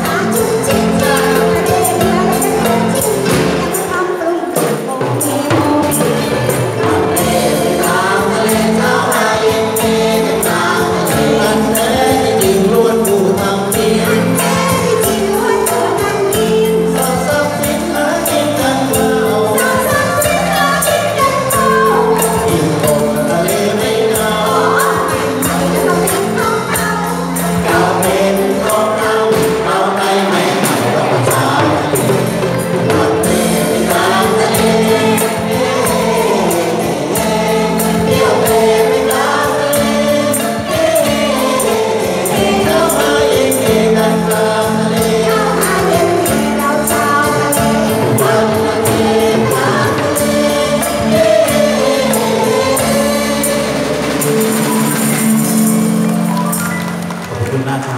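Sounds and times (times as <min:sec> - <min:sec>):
band accompaniment: 0:00.0 - 0:57.9
chorus singing folk-dance song: 0:00.0 - 0:57.9
small metallic percussion: 0:00.0 - 0:57.9.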